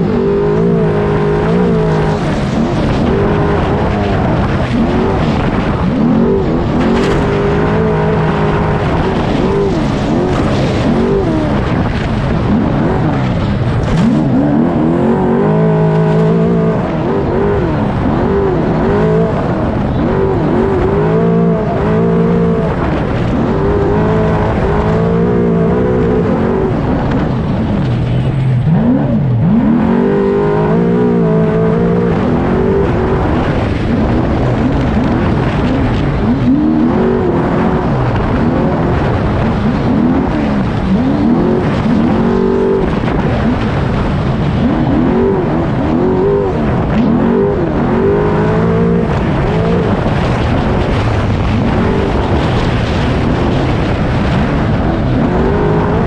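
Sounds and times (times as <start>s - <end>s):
race truck engine revving: 0.0s - 56.0s
wind rush: 0.0s - 56.0s.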